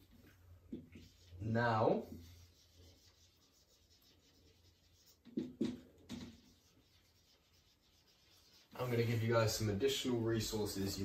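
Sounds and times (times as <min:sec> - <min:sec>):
marker writing on whiteboard: 0:00.0 - 0:09.2.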